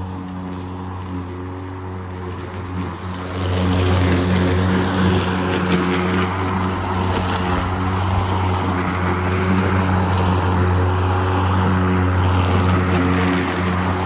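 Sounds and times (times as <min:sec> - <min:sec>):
electric lawn mower running: 0:00.0 - 0:14.0.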